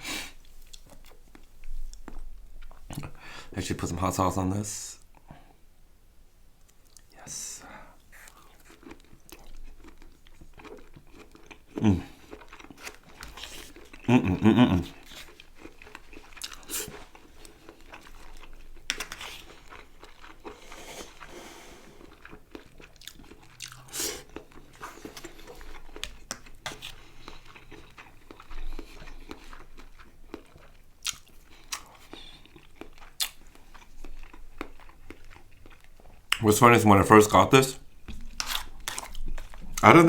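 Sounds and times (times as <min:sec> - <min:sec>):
person chewing food: 0:00.0 - 0:03.2, 0:06.6 - 0:07.1, 0:07.9 - 0:36.5, 0:37.8 - 0:40.0.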